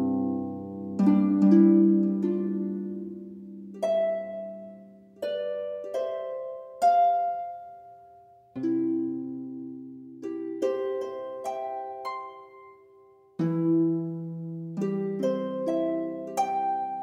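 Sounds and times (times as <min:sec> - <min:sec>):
slow plucked-string music: 0:00.0 - 0:17.0.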